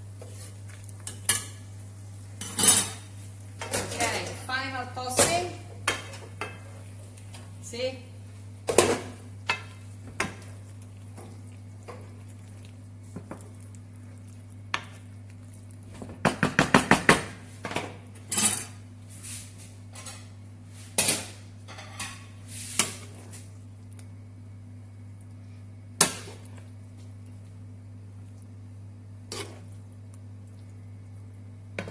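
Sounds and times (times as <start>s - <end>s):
electrical hum: 0.0s - 31.9s.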